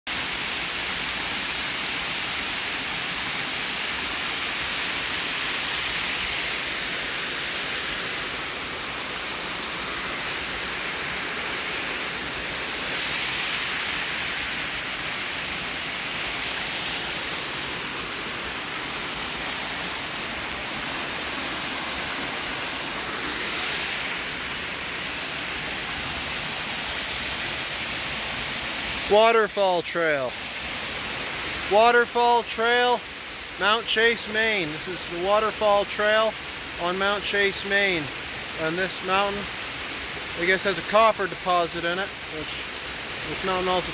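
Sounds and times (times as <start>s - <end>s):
waterfall pouring into pool: 0.1s - 43.9s.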